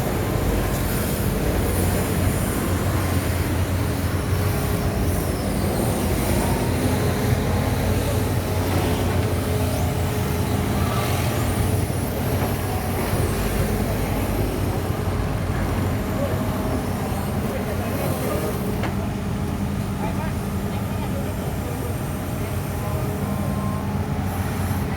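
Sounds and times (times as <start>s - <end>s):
diesel machinery engine rumble: 0.0s - 24.9s.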